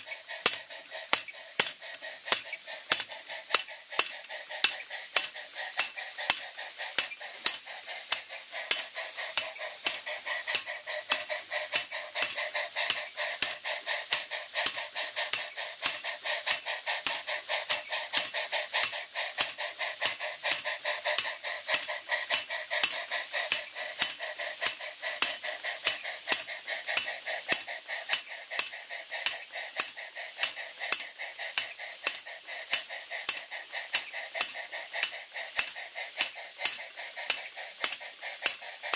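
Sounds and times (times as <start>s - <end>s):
steam hammer metallic tapping: 0.0s - 38.9s
steam hiss: 0.0s - 38.9s.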